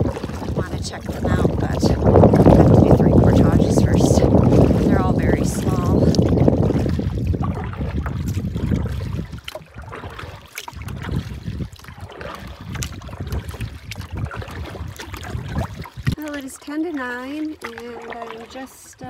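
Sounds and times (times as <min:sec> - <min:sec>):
wind rumbling on microphone: 0:00.0 - 0:16.4
water lapping against canoe: 0:00.0 - 0:19.0.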